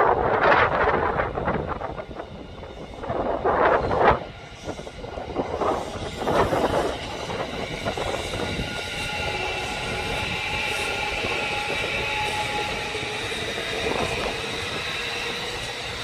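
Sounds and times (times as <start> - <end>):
electric train passing: 0.0 - 16.0
loud rushes of train: 0.0 - 16.0
steady high whine: 0.0 - 16.0.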